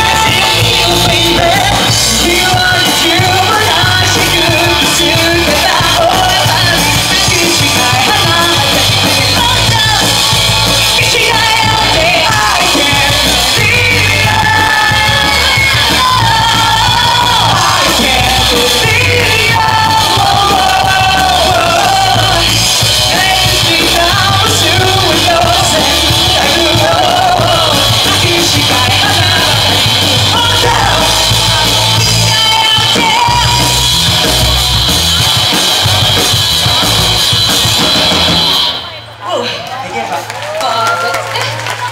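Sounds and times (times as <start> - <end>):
person singing: 0.0 - 36.9
live rock band playing: 0.0 - 39.3.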